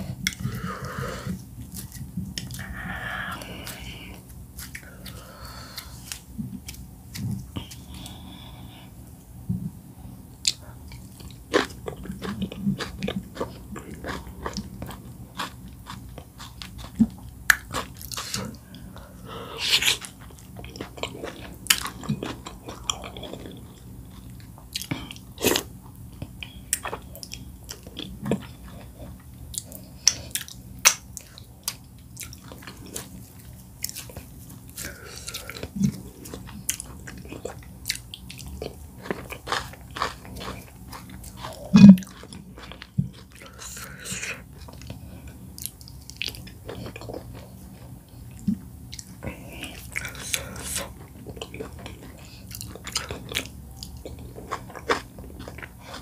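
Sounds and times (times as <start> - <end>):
wet chewing: 10.4 - 56.0.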